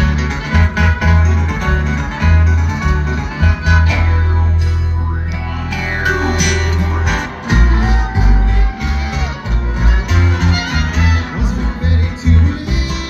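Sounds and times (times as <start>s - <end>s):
acoustic guitar: 0.0s - 13.0s
banjo: 0.0s - 13.0s
bluegrass band playing live: 0.0s - 13.0s
heavy bass: 0.0s - 13.0s.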